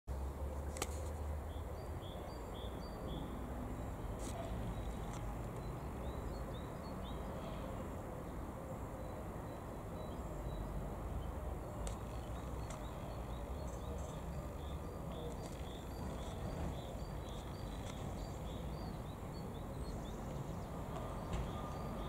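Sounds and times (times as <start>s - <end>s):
distant traffic rumble: 0.1s - 22.0s
small birds chirping: 0.6s - 8.4s, 9.0s - 22.0s.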